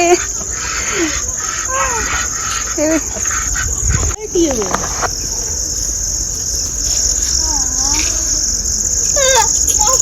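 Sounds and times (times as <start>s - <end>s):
insects shrilling: 0.0s - 10.0s.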